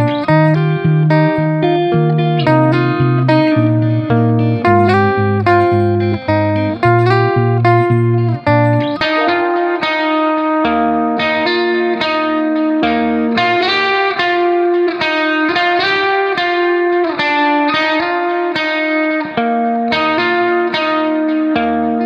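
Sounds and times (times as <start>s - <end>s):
plucked guitar melody: 0.0s - 22.0s.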